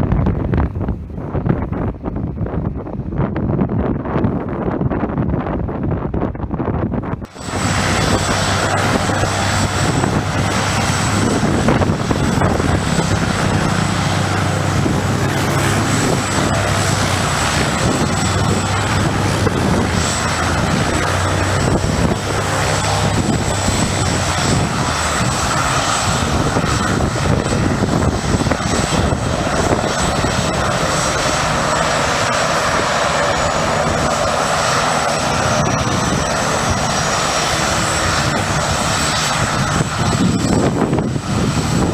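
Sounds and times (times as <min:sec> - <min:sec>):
propeller airplane engine: 0:06.1 - 0:41.9
low engine hum: 0:06.6 - 0:41.9.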